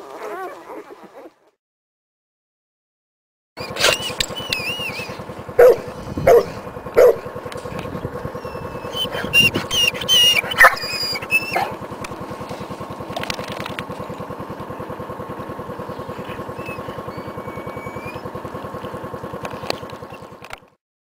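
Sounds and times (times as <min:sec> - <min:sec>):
small engine running: 0:03.6 - 0:20.8.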